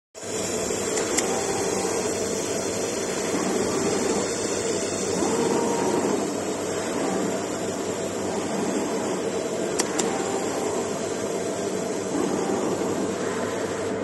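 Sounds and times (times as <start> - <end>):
machine whirring: 0.2 - 14.0.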